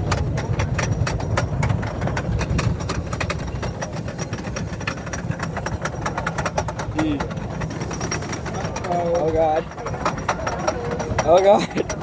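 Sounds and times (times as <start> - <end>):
rapid irregular clacking: 0.0 - 12.0
roller coaster rumbling on track: 0.0 - 12.0.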